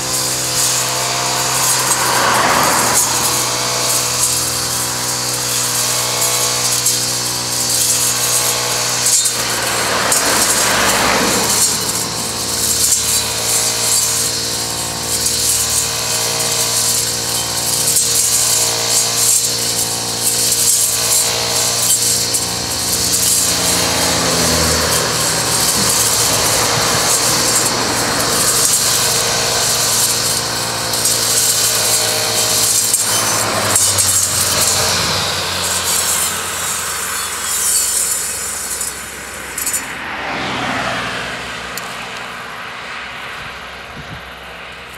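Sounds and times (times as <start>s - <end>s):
blade cutting long grass: 0.0s - 44.9s
brushcutter engine at high revs: 0.0s - 44.9s.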